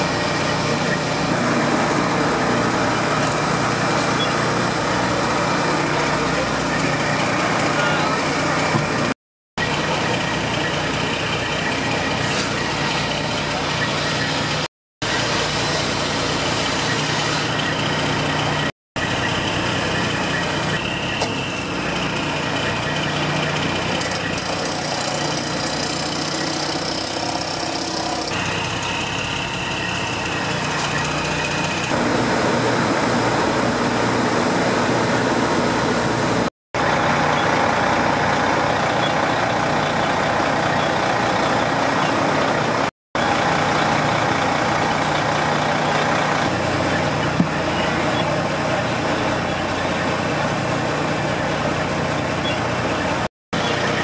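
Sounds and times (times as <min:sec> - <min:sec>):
truck engine humming: 0:00.0 - 0:54.0.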